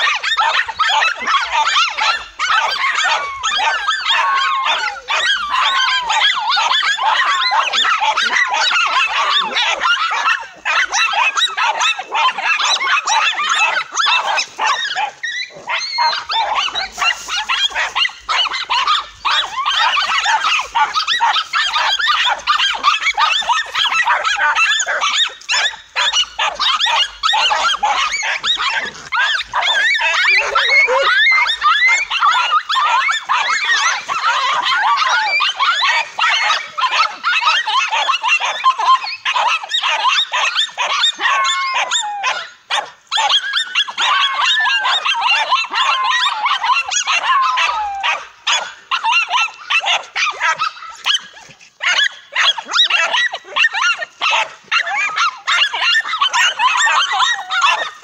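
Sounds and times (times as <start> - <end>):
dogs barking and yelping: 0.0 - 58.0.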